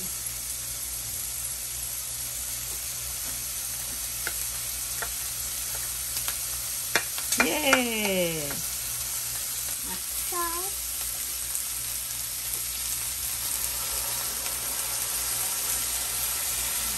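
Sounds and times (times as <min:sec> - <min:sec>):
chives sizzling in a frying pan: 0:00.0 - 0:16.9.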